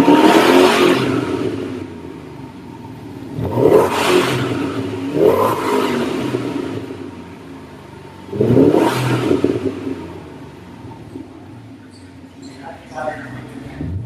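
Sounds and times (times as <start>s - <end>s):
car engine revving from idle: 0.0s - 14.0s.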